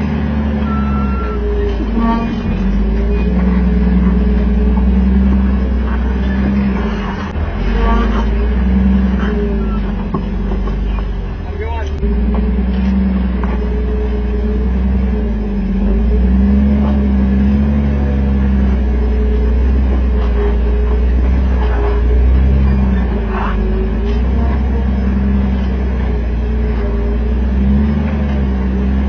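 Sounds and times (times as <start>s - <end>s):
vehicle engine at low revs: 0.0s - 29.0s.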